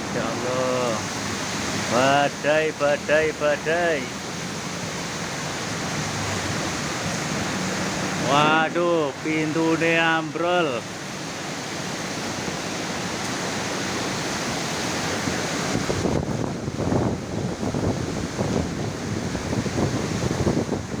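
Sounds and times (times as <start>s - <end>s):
heavy rain pouring: 0.0s - 21.0s
strong gusty wind: 0.0s - 21.0s.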